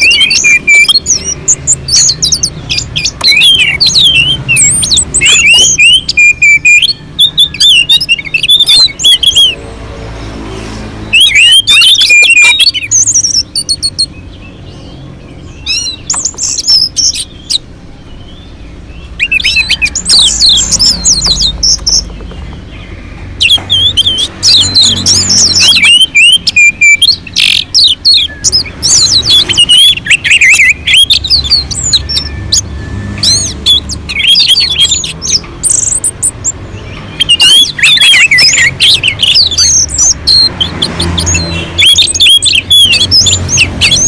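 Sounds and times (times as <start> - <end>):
bird singing whistled notes: 0.0 - 9.6, 11.0 - 44.0.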